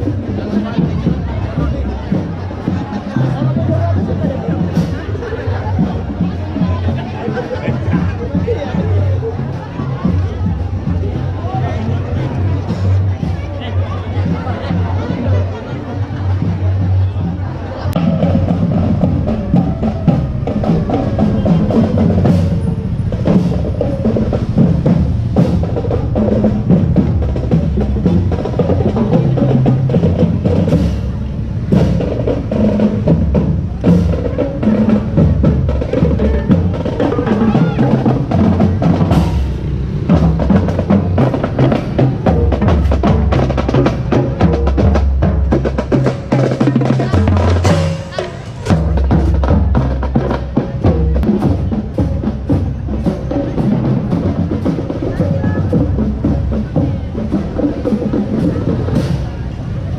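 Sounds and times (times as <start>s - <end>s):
drums beating: 0.0s - 59.9s.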